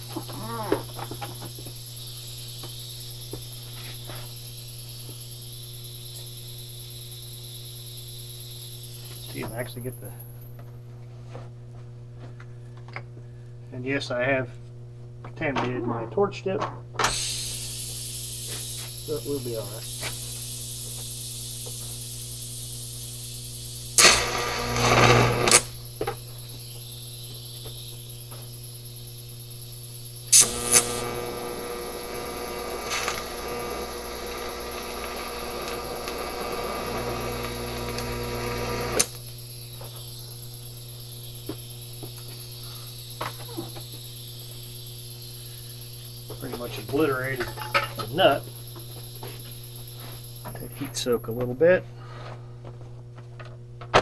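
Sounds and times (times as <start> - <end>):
welding arc crackling: 0.0 - 10.1, 17.0 - 51.4
welding arc hissing: 0.0 - 10.4, 17.0 - 51.4
steady electrical hum: 0.0 - 54.0.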